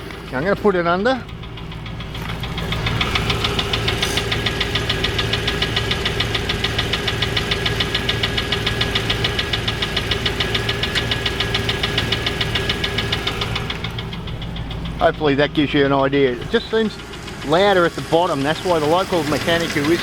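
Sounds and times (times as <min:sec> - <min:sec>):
car engine idling with rapid knock: 0:00.0 - 0:20.0.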